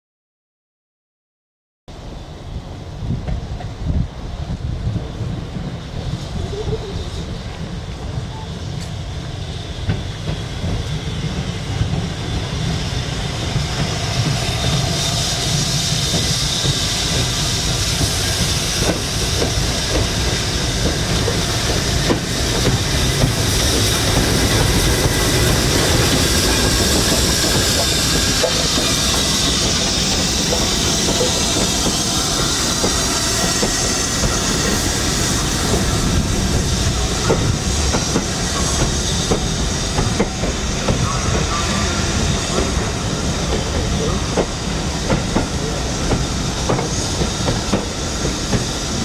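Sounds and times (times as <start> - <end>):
train rumbling: 1.9 - 49.0
steam hissing: 2.0 - 49.0
train wheels clicking on rails: 3.0 - 49.0.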